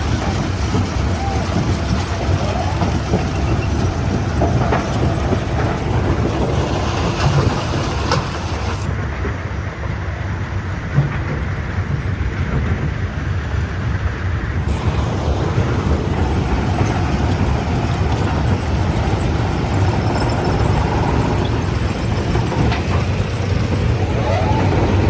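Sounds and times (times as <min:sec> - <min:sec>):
heavy machinery rumbling: 0:00.0 - 0:25.0.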